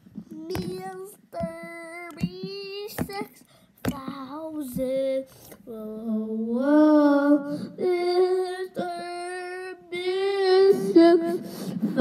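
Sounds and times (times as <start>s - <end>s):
boy singing into toy microphone: 0.2s - 12.0s.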